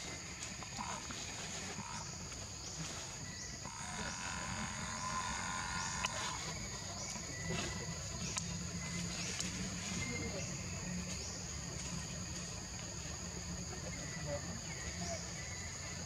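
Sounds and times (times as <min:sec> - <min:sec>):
high-pitched insect hum: 0:00.0 - 0:16.0
low steady rumble: 0:00.0 - 0:16.0.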